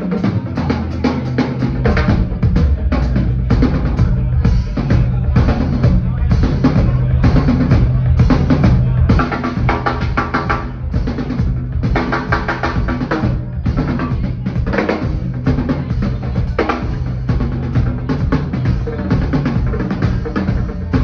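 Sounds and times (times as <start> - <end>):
drum kit solo: 0.0 - 21.0.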